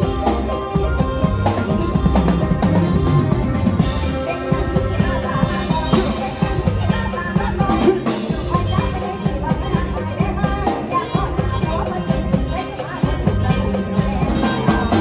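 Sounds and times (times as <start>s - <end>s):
drum kit steady beat: 0.0s - 15.0s
keyboard playing wavering melody: 0.0s - 15.0s.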